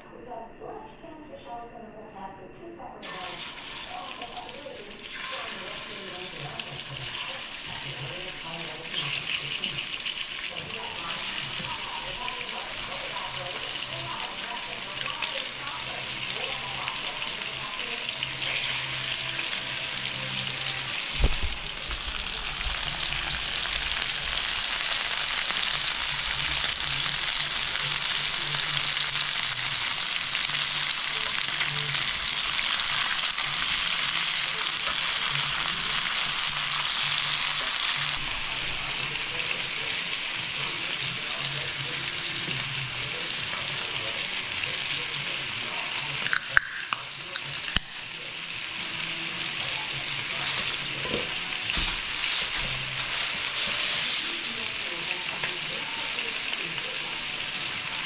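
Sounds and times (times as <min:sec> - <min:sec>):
fish sizzling in hot oil: 0:03.0 - 0:58.0.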